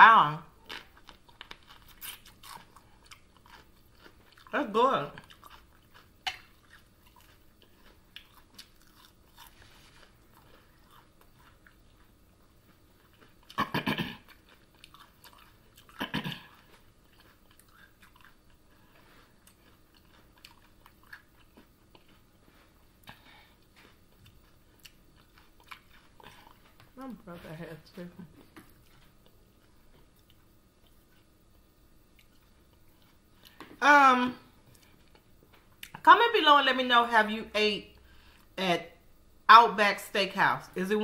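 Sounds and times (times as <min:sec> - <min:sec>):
chewing fried food: 0:00.5 - 0:33.7.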